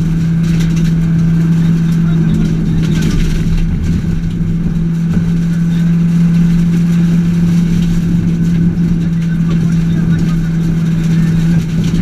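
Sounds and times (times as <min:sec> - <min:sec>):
car engine at high revs: 0:00.0 - 0:12.0
tyres rumbling on gravel: 0:00.0 - 0:12.0.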